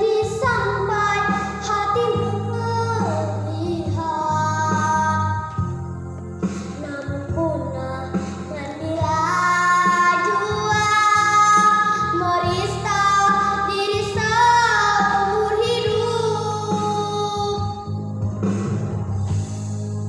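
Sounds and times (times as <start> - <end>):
girl singing with vibrato: 0.0 - 5.8, 6.6 - 18.0
instrumental accompaniment: 0.0 - 20.0.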